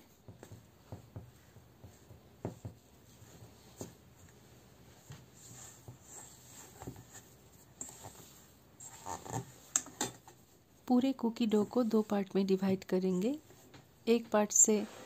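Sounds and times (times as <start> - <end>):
hands kneading dough in bowl: 0.0 - 14.3.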